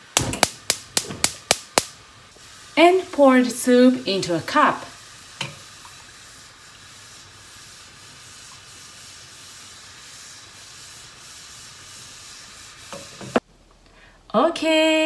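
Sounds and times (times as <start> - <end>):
noodles sizzling on hot plate: 0.0 - 13.4.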